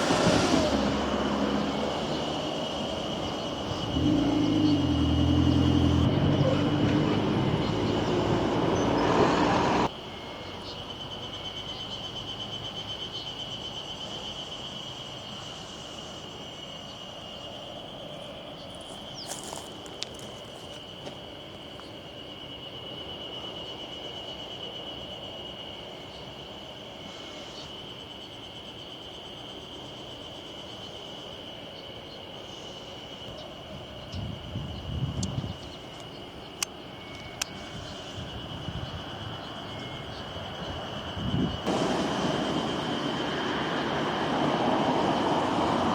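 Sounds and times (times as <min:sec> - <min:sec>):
faint outdoor background noise: 0:00.0 - 0:45.9.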